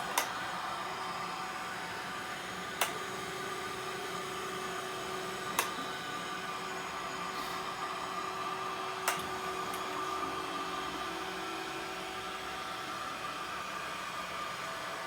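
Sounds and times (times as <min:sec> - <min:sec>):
window-cleaning robot fan whirring: 0:00.0 - 0:15.0.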